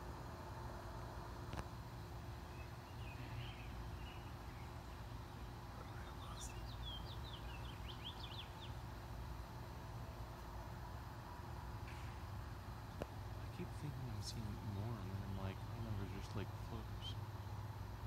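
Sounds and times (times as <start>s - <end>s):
low outdoor rumble: 0.0s - 18.0s
songbird chirping: 1.5s - 11.0s, 11.8s - 17.8s.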